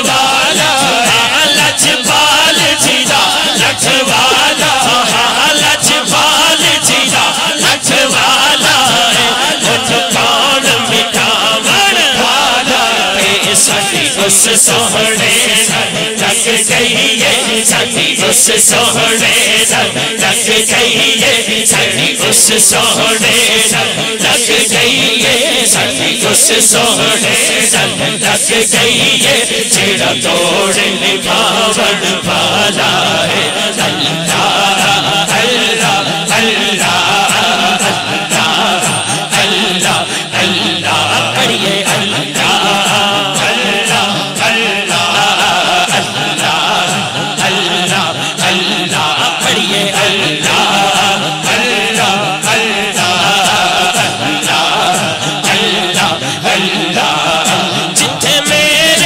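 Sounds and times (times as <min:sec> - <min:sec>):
crowd of men chanting: 0:00.0 - 0:59.0
man chanting over loudspeaker: 0:00.0 - 0:59.0
steady rhythmic beat: 0:00.0 - 0:59.0.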